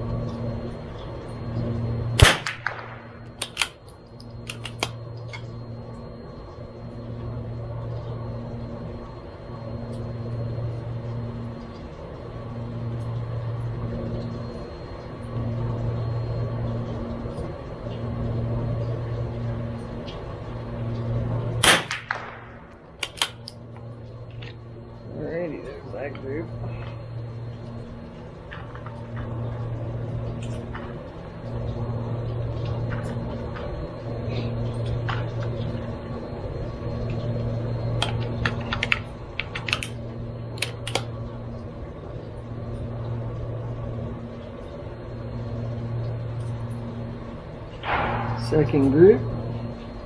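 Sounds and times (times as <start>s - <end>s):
engine humming: 0.0s - 50.0s.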